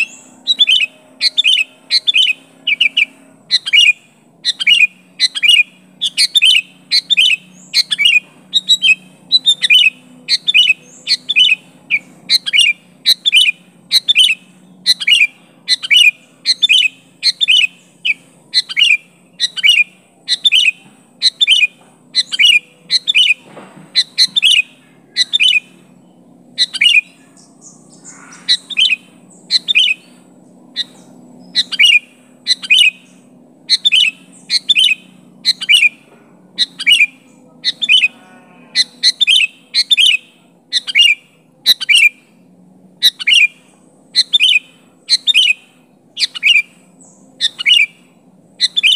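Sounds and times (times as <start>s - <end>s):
bird chirping calls: 0.0s - 48.9s.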